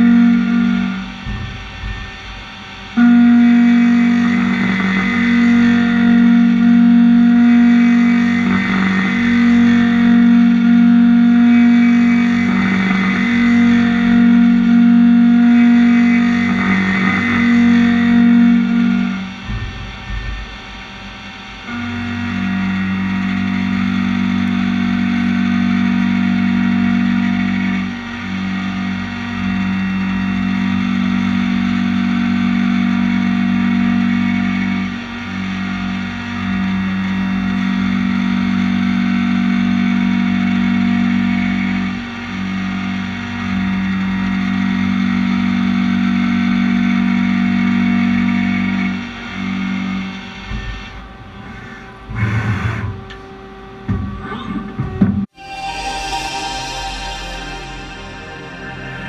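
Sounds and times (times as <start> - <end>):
lathe machine hum: 0.0 - 52.3, 55.3 - 59.0.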